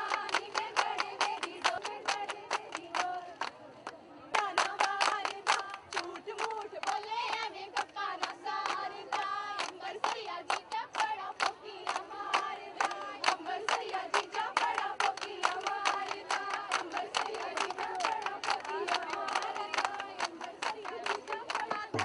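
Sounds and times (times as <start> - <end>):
women singing: 0.0 - 3.5, 4.3 - 22.0
rhythmic hand clapping: 0.0 - 22.0.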